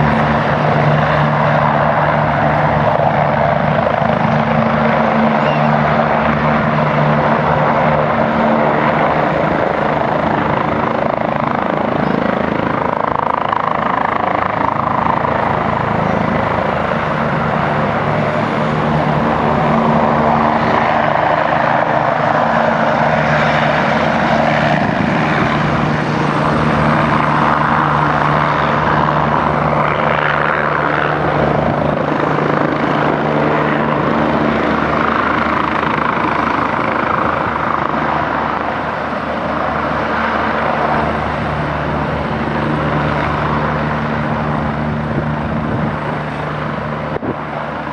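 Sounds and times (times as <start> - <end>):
helicopter rotor and turbine: 0.0 - 47.9.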